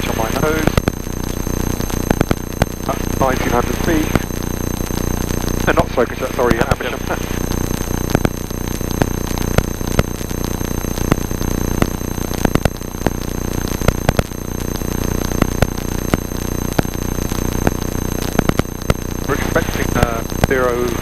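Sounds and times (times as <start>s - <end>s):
crackling clicks: 0.0s - 21.0s
electrical buzz with whining tones: 0.0s - 21.0s.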